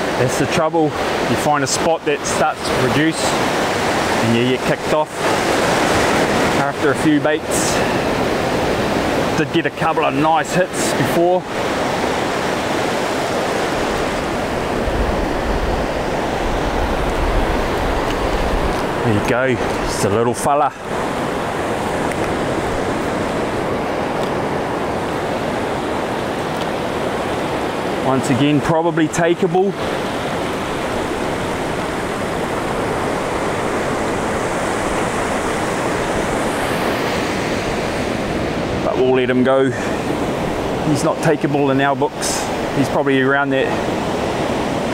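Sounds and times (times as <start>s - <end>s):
surf washing over shallow water: 0.0s - 44.9s.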